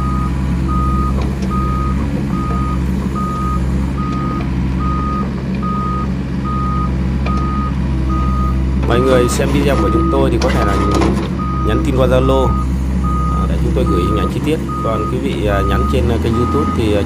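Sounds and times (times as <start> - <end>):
diesel engine running: 0.0 - 17.0
excavator travel alarm beeping: 0.0 - 17.0.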